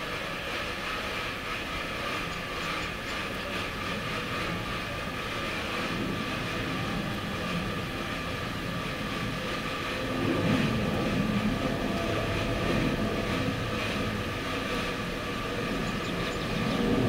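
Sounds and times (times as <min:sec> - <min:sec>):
faint constant hum: 0:00.0 - 0:17.0
steady mechanical rumble: 0:00.0 - 0:17.0.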